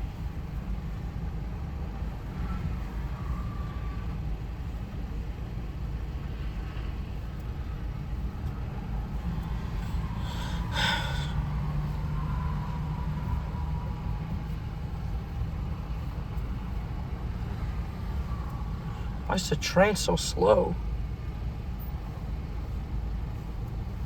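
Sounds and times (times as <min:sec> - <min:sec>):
train rolling with low rumble: 0:00.0 - 0:19.3, 0:20.8 - 0:24.0.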